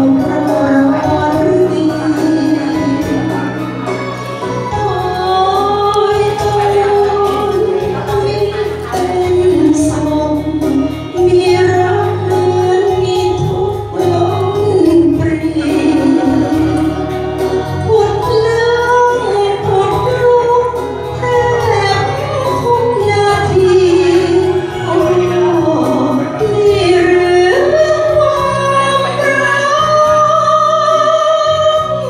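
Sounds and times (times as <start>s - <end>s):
woman singing into microphone: 0.0s - 32.0s.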